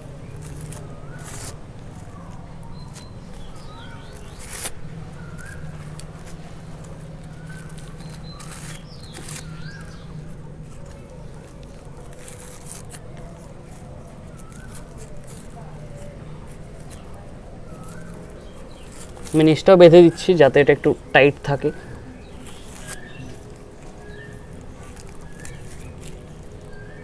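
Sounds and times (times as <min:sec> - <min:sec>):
small birds chirping: 0:00.0 - 0:27.0
steady low hum: 0:00.0 - 0:27.0
plastic strip crinkling: 0:00.2 - 0:27.0.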